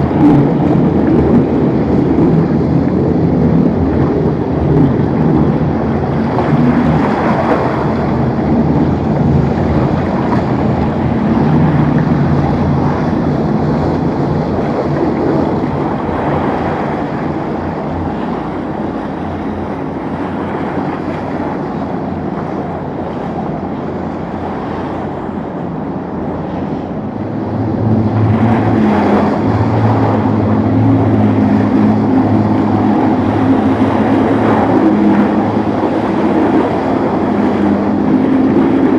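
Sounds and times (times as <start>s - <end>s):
boat passing close: 0.0s - 38.9s
motorboat engines: 0.0s - 38.9s
waves: 0.0s - 38.9s
wind buffeting microphone: 0.0s - 38.9s.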